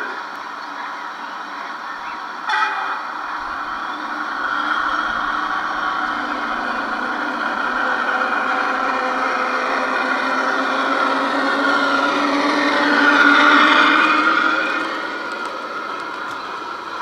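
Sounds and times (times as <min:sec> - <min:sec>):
model train motor whine: 0:00.0 - 0:17.0.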